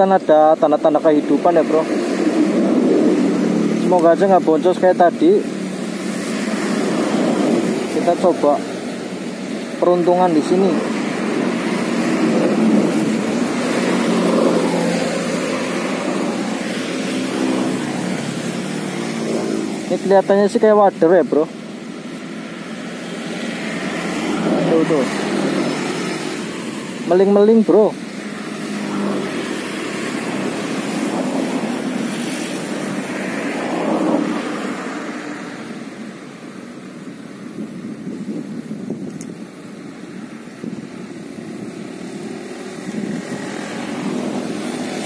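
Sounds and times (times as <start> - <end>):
road traffic passing: 0.0 - 45.0
vehicle engines humming: 0.0 - 45.0.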